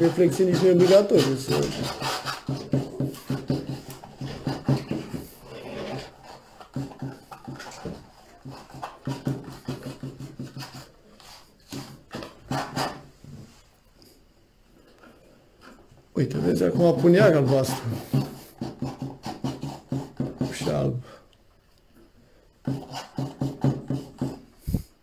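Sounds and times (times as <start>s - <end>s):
palette knife scraping paint: 0.0s - 13.1s, 15.6s - 21.0s, 22.6s - 24.8s.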